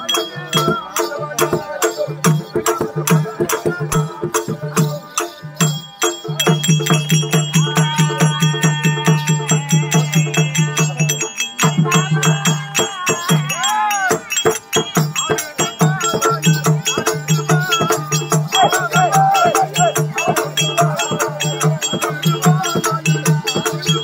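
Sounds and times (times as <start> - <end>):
drum beating fast rhythm: 0.0 - 24.0
jingling metal percussion: 0.0 - 24.0.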